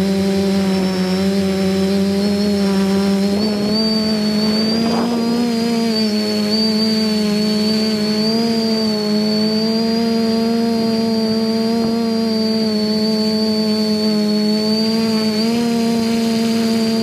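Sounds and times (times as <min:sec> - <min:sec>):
drone propellers humming: 0:00.0 - 0:17.0
high motor whine: 0:00.0 - 0:17.0.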